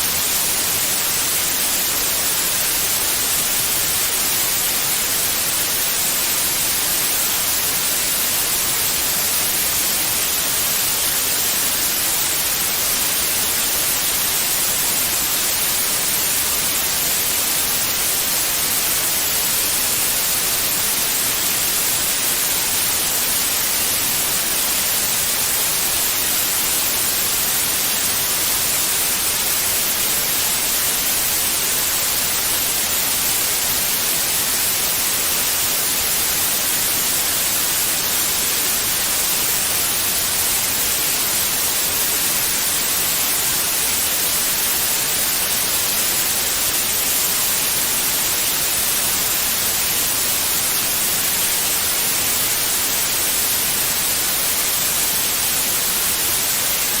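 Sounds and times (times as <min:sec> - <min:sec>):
steady white noise: 0:00.0 - 0:57.0.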